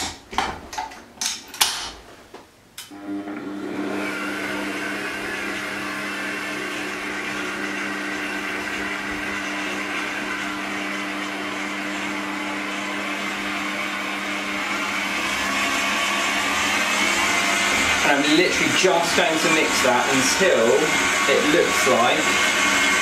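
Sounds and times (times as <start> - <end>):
stand mixer motor running: 3.0 - 23.0.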